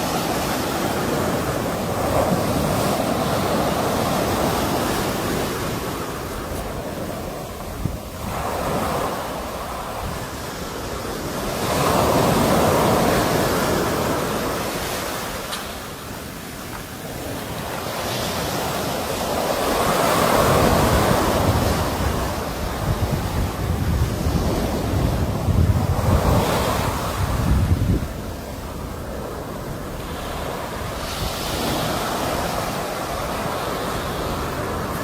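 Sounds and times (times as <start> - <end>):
sea waves washing on shore: 0.0 - 35.0
wind buffeting microphone: 0.0 - 35.0.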